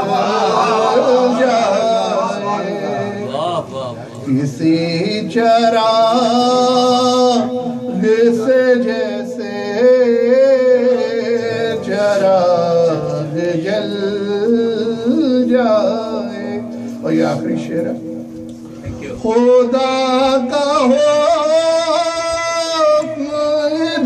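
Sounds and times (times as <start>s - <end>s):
man singing devotional song: 0.0s - 18.2s, 19.0s - 24.0s.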